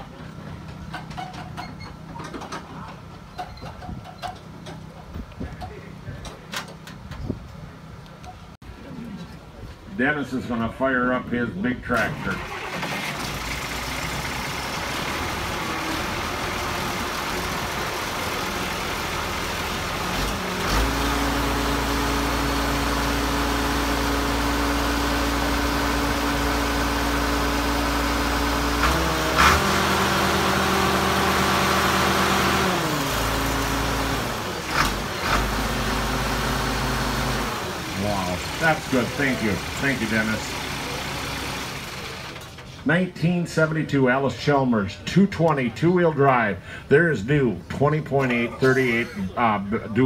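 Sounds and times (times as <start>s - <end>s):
tractor diesel engine: 0.0s - 45.0s.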